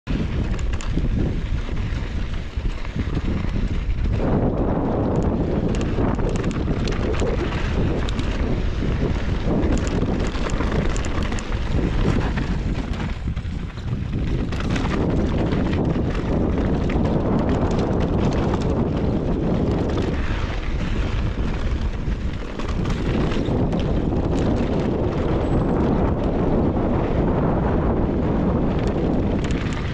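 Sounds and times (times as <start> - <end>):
heavy wind on microphone: 0.0 - 29.9.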